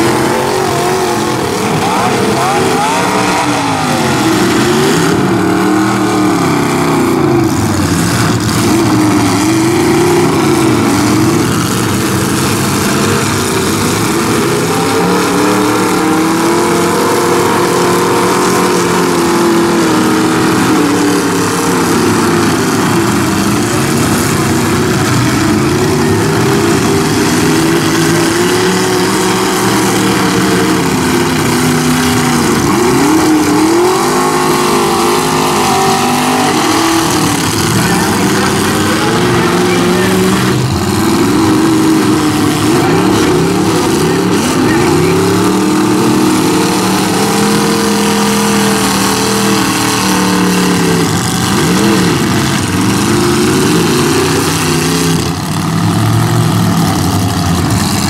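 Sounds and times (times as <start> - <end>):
truck engines revving hard: 0.0 - 58.0.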